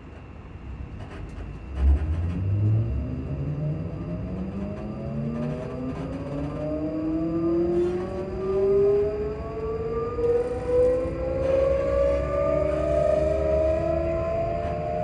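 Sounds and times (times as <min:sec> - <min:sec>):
train rumbling on track: 0:00.0 - 0:15.0
train traction motors whining: 0:00.0 - 0:15.0.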